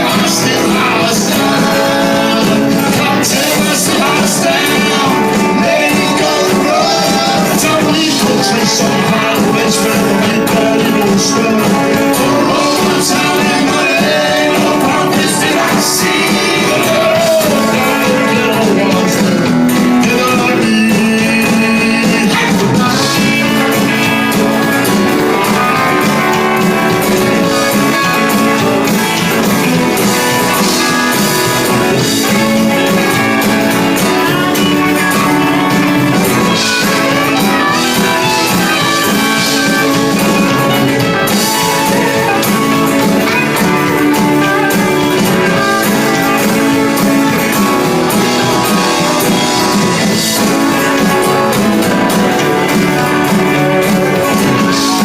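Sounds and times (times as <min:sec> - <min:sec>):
drum kit beat: 0:00.0 - 0:55.0
guitar-led band playing: 0:00.0 - 0:55.0.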